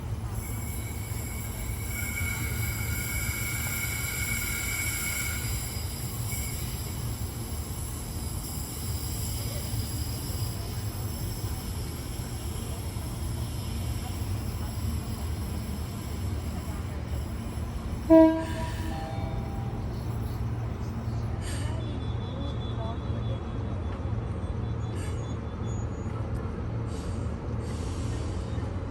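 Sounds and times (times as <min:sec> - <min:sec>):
electric train low rumble: 0:00.0 - 0:28.9.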